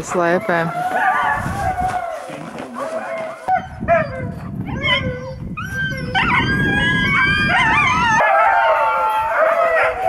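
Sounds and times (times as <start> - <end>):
dogs howling: 0.0 - 10.0
dogs yipping and whining: 0.0 - 10.0.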